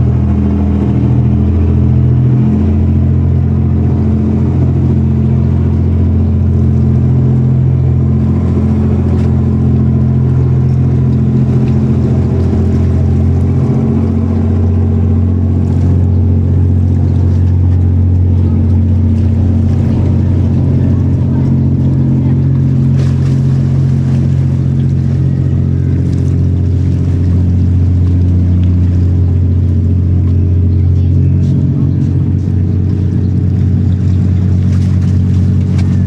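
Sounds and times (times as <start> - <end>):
ferry engines humming: 0.0 - 36.0.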